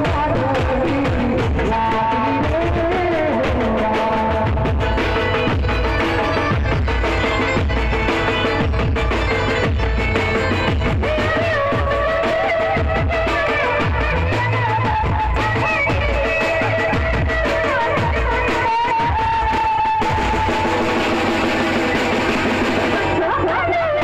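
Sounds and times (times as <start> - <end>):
drum kit: 0.0 - 24.0.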